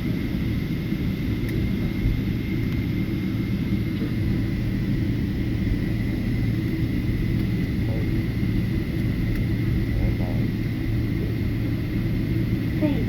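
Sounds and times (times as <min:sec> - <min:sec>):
airliner cabin rumble: 0:00.0 - 0:13.0
thin steady whine: 0:00.0 - 0:13.0.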